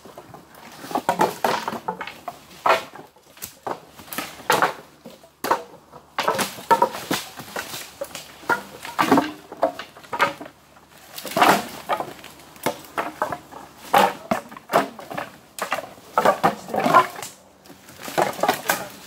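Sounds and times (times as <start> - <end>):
branches crunching and cracking: 0.0 - 19.0.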